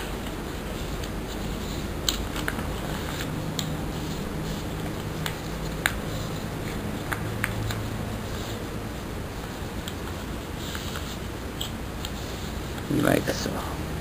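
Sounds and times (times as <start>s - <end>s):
paper rustling: 0.0s - 13.0s
steady low hum: 0.0s - 14.0s.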